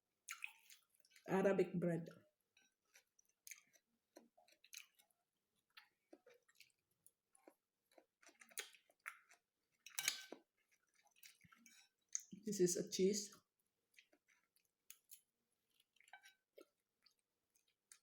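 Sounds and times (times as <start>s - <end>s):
person chewing food: 0.2s - 1.3s, 2.3s - 12.4s, 13.4s - 18.0s.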